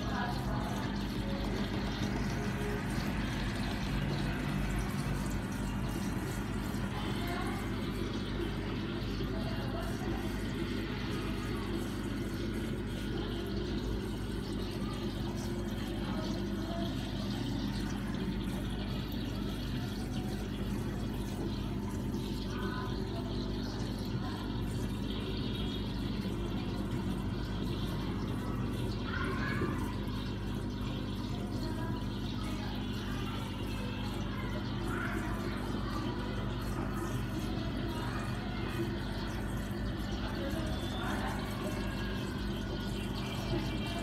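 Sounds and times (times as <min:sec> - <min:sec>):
water trickling: 0:00.0 - 0:44.0.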